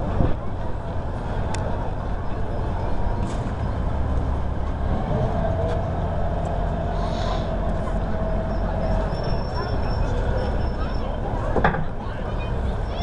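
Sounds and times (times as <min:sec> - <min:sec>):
railway machinery rumble: 0:00.0 - 0:13.0.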